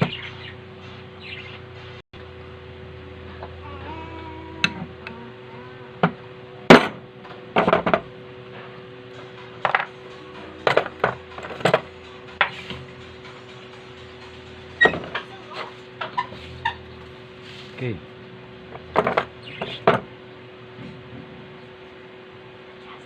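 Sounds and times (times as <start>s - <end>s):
low hum: 0.0s - 22.7s.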